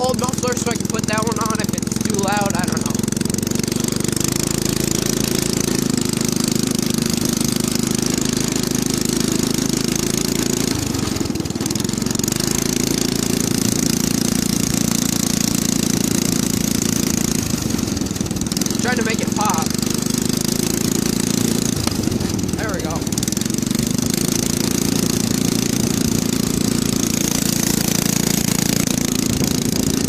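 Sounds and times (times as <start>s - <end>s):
go-kart engine running loud: 0.0s - 30.0s.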